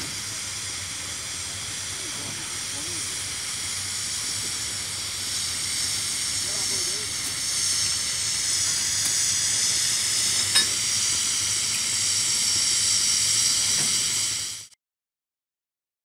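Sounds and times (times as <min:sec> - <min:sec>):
steam locomotive hissing: 0:00.0 - 0:14.8.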